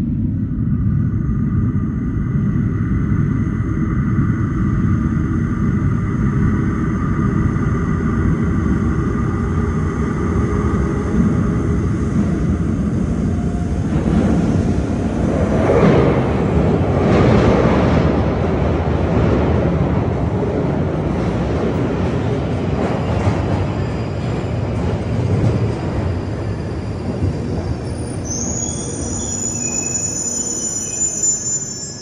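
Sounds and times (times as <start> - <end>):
train rumbling in tunnel: 0.0 - 32.0
rushing air and wheels: 0.1 - 27.9.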